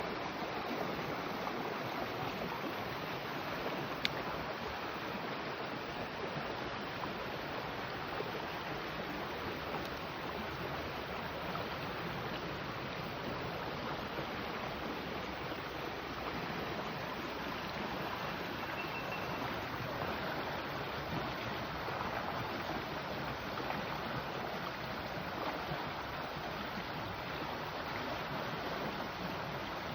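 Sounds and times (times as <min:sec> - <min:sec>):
flowing stream water: 0:00.0 - 0:29.9.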